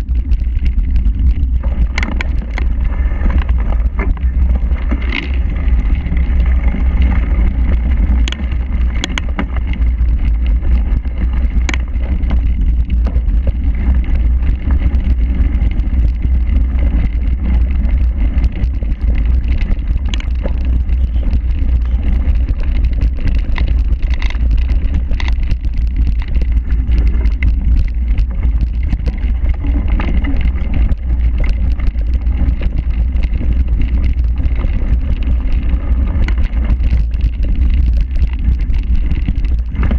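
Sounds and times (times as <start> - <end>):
bike clicks and rattles: 0.0 - 39.9
wind buffeting microphone: 0.0 - 39.9.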